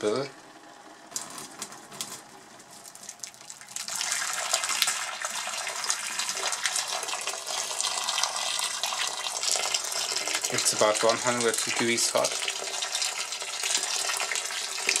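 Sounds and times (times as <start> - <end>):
water pouring into a sink: 2.9 - 15.0.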